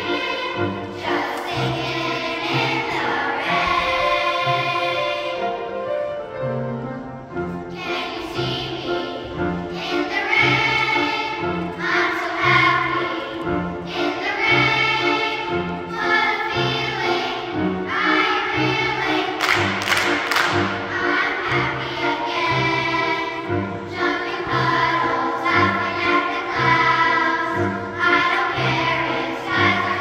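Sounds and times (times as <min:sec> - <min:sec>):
children's choir singing: 0:00.0 - 0:30.0.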